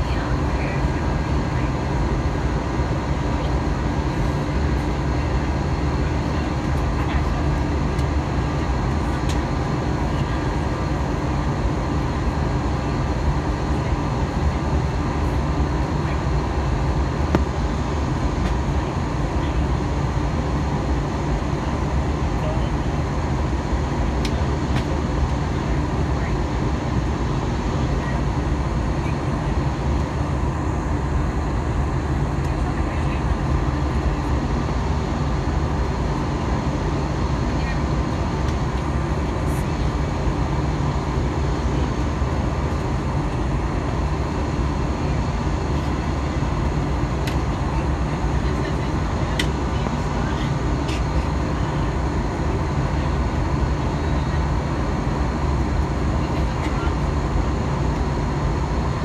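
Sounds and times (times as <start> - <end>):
jet engine drone in cabin: 0.0 - 59.0.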